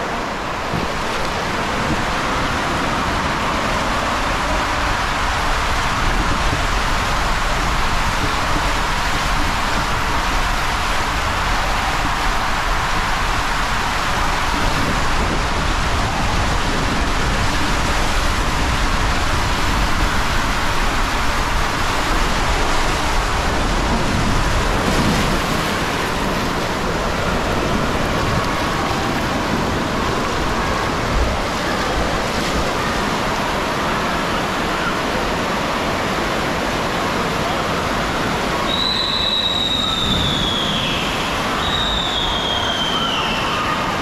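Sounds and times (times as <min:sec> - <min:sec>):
rider sliding down water slide: 0:00.0 - 0:44.0
rushing churning water: 0:00.0 - 0:44.0.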